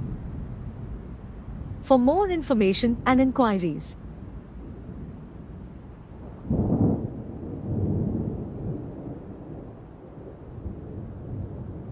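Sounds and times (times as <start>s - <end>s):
thunder rumbling: 0.0s - 11.9s.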